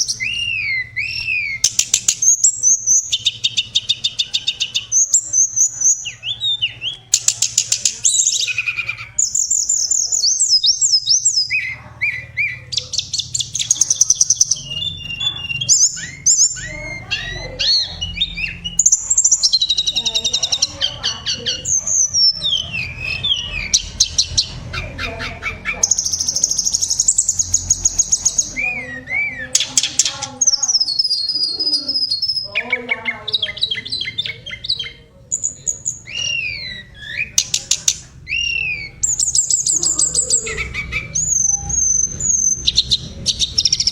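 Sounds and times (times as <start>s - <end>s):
bird singing trills and whistles: 0.0s - 43.9s.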